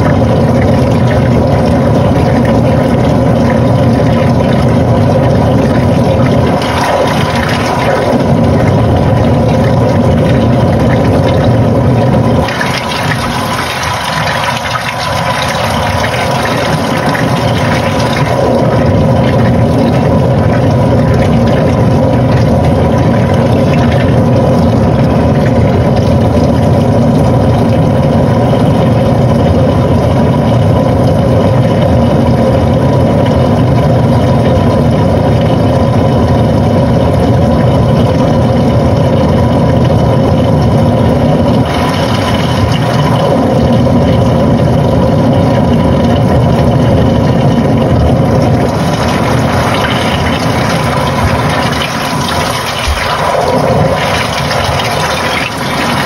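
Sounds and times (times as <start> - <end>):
washing machine churning: 0.0 - 56.0
washing machine motor whine: 0.0 - 56.0.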